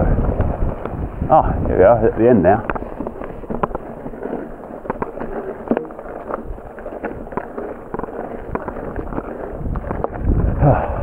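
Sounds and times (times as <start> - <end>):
bike rattling over bumps: 0.0 - 11.0
bike tyres on dirt: 0.0 - 11.0.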